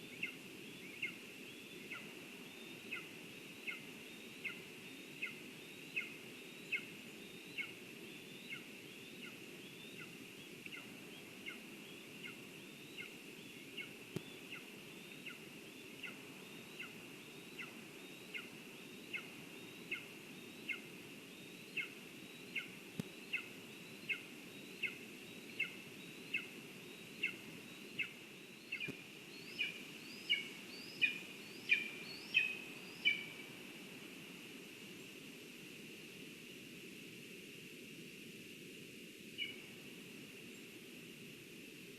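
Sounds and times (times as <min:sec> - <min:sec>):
low background hiss: 0:00.0 - 0:41.9.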